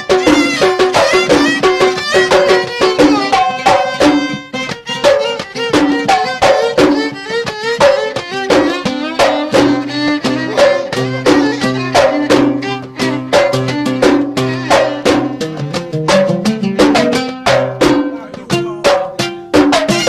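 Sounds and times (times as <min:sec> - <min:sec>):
violin melody: 0:00.0 - 0:17.4
hand drums beating: 0:00.0 - 0:20.0.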